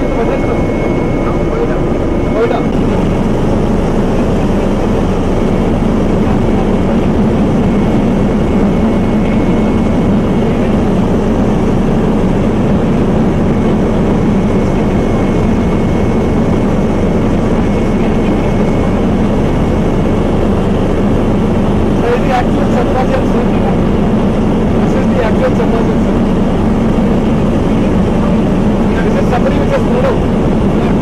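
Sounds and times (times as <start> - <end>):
aircraft engines droning: 0.0 - 31.0
faint thin whine: 0.0 - 31.0.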